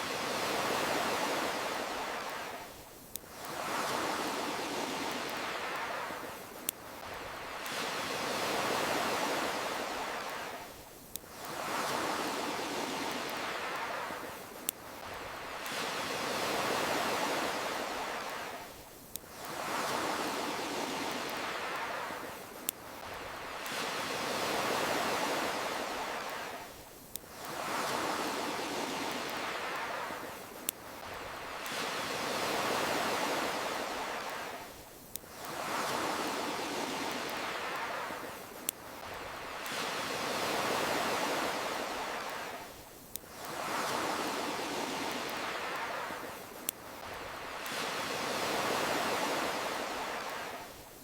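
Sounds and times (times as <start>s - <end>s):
ocean waves washing in: 0.0s - 51.0s.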